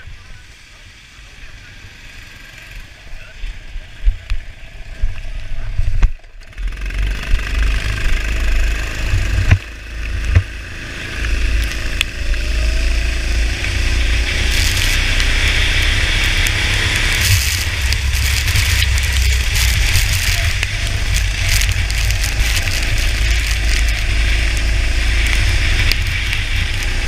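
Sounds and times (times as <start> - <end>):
wind rumble on camera: 3.1 - 27.0
go-kart engine running: 4.3 - 27.0.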